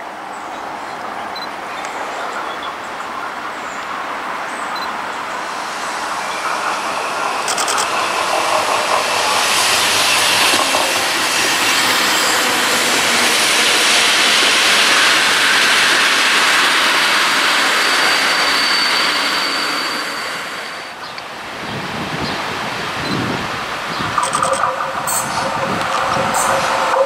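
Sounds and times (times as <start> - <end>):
railcar passing on rails: 0.0 - 27.0.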